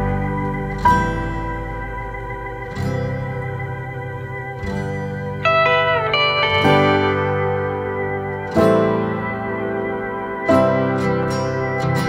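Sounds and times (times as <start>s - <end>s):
instrumental guitar-like music: 0.0s - 12.0s.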